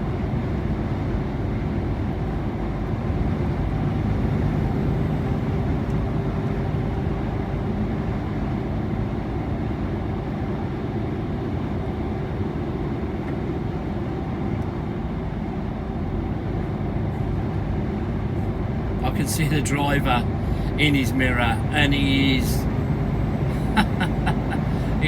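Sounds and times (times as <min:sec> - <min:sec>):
road rumble: 0:00.0 - 0:25.0
truck engine drone: 0:00.0 - 0:25.0.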